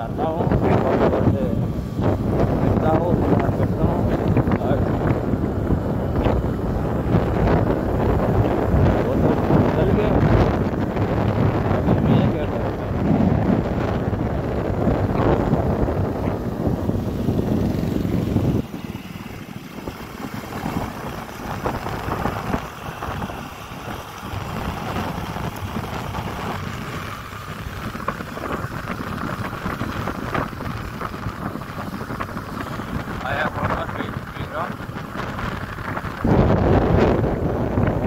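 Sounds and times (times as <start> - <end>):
vehicle road noise: 0.0 - 38.0
wind rushing over microphone: 0.0 - 38.0.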